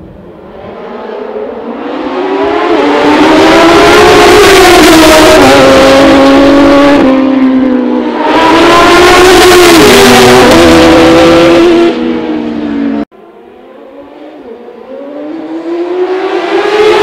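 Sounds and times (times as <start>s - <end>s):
motorcycles passing at full throttle: 0.6s - 17.0s.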